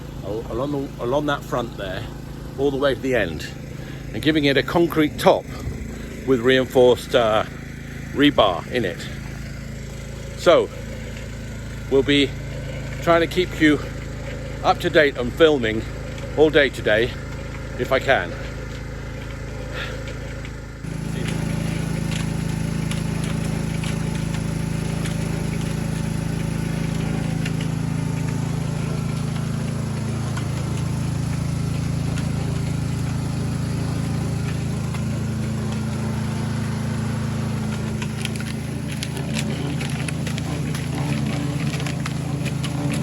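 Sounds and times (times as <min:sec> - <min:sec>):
motor running steadily: 0:00.0 - 0:43.0.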